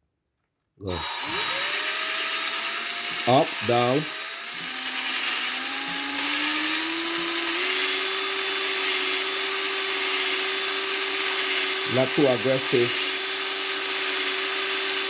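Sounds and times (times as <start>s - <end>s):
electric drill motor whine: 0.8s - 15.0s
valve grinding on seat: 0.9s - 15.0s.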